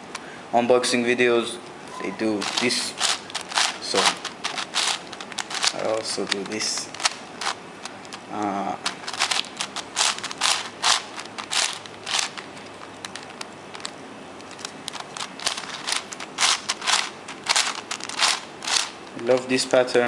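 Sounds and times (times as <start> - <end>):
plastic clicking and crackling: 2.4 - 19.8.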